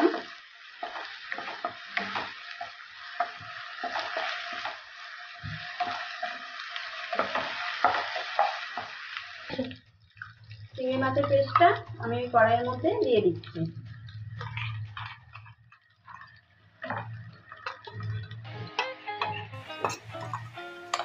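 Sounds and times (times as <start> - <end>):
onion sizzling in hot oil: 0.0 - 18.8, 19.5 - 21.0.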